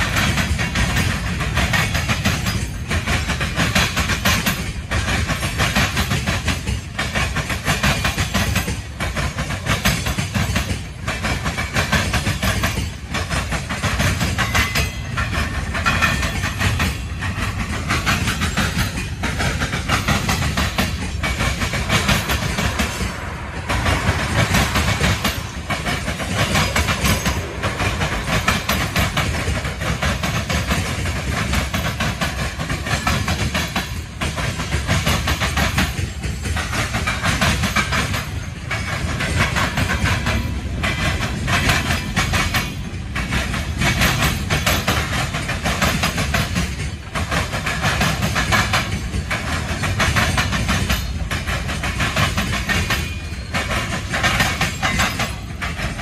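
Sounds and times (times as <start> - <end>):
freight train rolling past: 0.0 - 56.0
wheels clacking over rail joints: 0.0 - 56.0.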